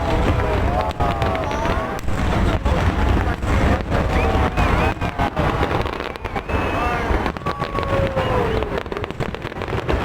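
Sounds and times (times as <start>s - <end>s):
crowd calling out: 0.0s - 9.3s
fireworks bangs and crackles: 0.0s - 10.0s.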